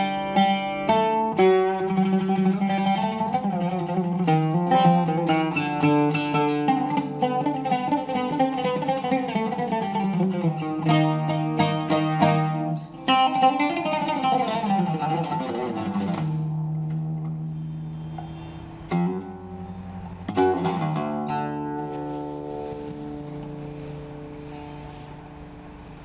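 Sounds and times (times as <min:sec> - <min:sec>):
oud plucked notes: 0:00.0 - 0:26.0.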